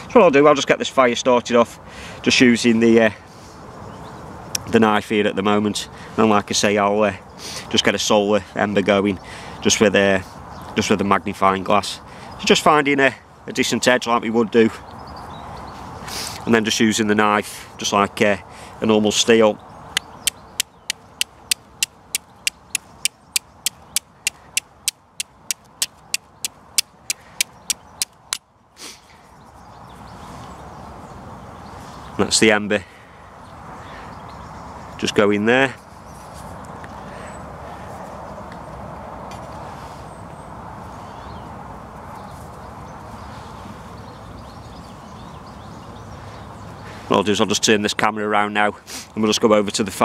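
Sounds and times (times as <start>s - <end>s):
outdoor background hiss: 0.0s - 37.8s, 39.5s - 50.0s.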